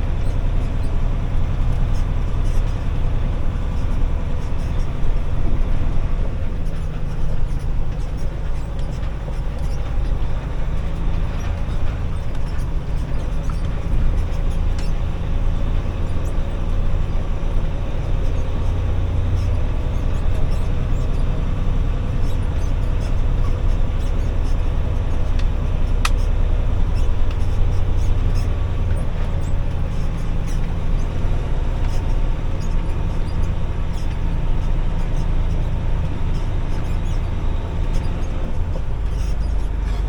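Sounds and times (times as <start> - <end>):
tow truck engine droning: 0.0 - 40.0.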